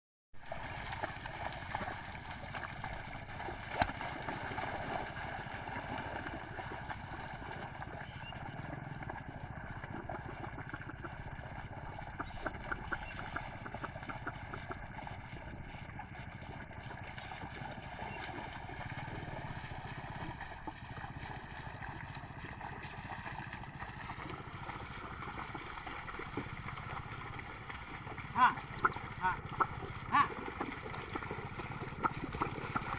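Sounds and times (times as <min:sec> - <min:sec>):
small engine droning: 0:00.4 - 0:32.9.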